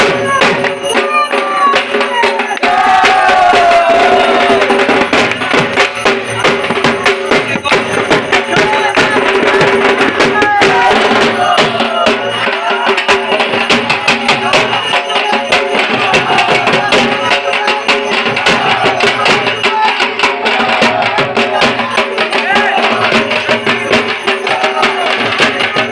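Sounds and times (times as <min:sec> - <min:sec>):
drums beaten with sticks: 0:00.0 - 0:25.9.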